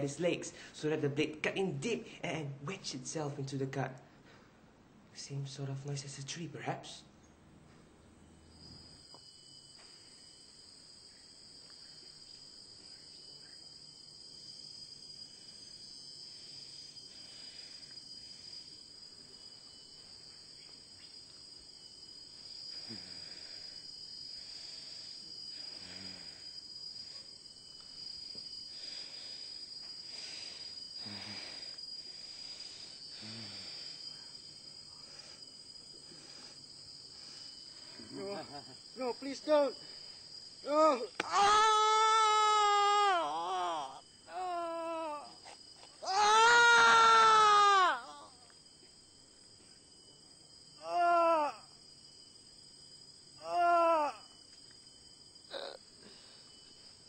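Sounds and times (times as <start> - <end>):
high-pitched insect chirring: 8.4 - 57.0.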